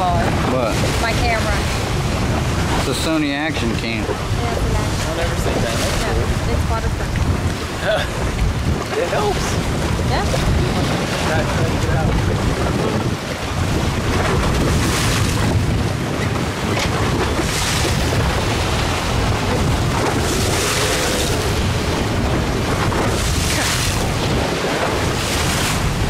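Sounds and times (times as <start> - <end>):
waves washing and splashing: 0.0 - 26.0
wind buffeting microphone: 0.0 - 26.0.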